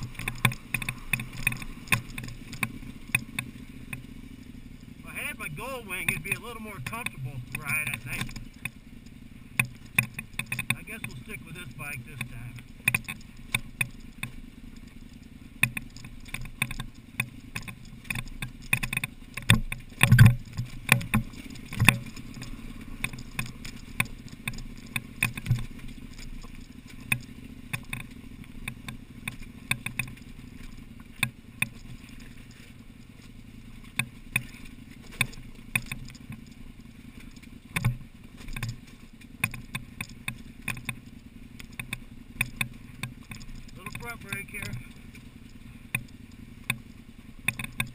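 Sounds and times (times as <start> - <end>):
motorcycle engine at low revs: 0.0 - 47.9.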